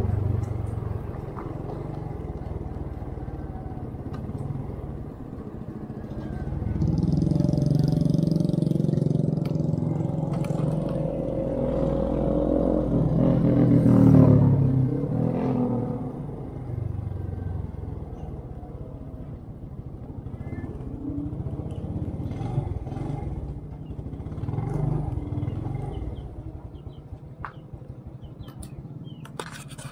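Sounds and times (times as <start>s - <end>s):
motorcycle engine running: 0.0s - 29.4s.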